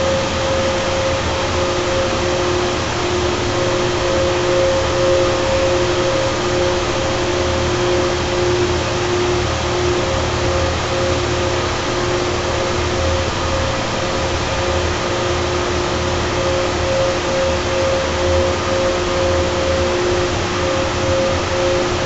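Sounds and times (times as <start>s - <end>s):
chiller hiss and hum: 0.0s - 22.0s
compressor whining tones: 0.0s - 22.0s.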